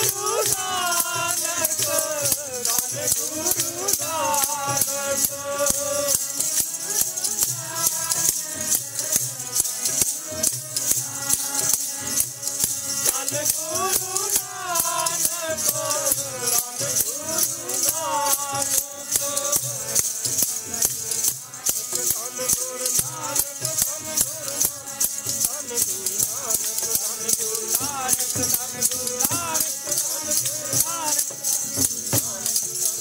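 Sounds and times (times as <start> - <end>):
fast jingling percussion: 0.0 - 33.0
person singing devotional melody: 0.0 - 33.0.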